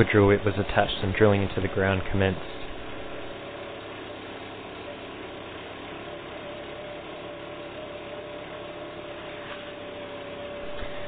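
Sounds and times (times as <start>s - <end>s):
drill rig engine drone: 0.0s - 11.0s.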